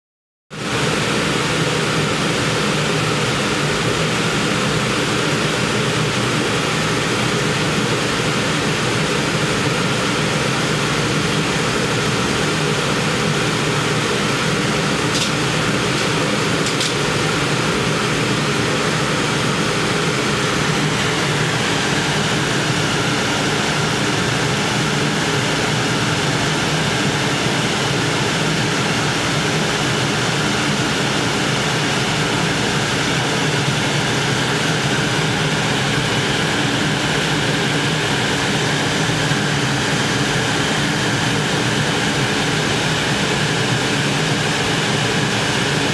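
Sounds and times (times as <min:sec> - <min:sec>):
machine drone with low hum: 0:00.6 - 0:45.9.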